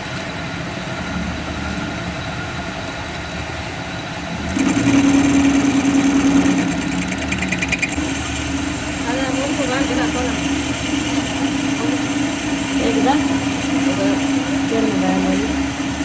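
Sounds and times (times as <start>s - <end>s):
machine motor running: 0.4s - 16.0s.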